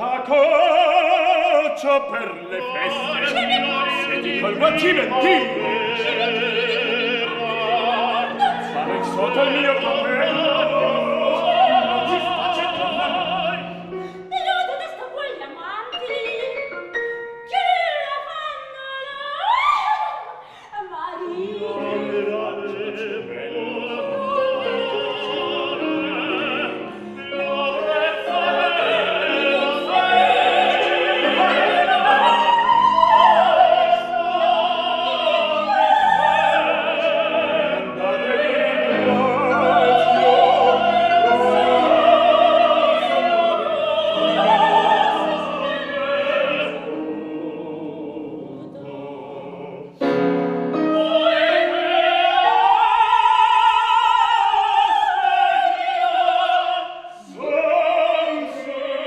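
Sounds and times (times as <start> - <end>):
operatic singing with vibrato: 0.0 - 59.0.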